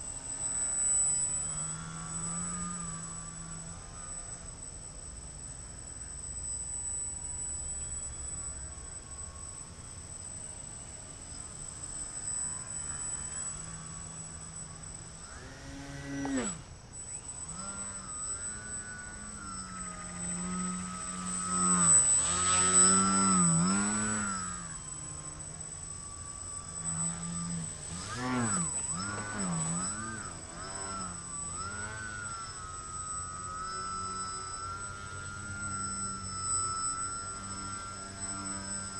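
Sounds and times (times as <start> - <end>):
model plane motor buzzing: 0.0 - 38.9.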